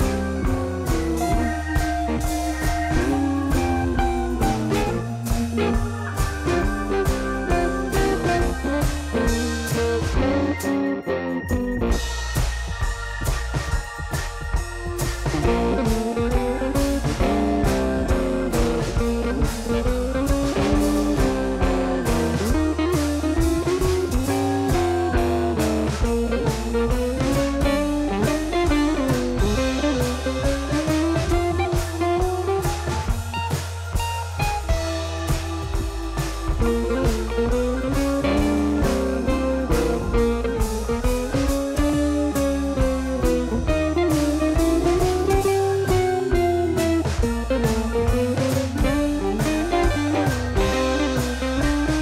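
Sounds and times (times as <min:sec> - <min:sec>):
bass line: 0:00.0 - 0:52.0
drum kit beat: 0:00.0 - 0:52.0
guitar: 0:00.0 - 0:52.0.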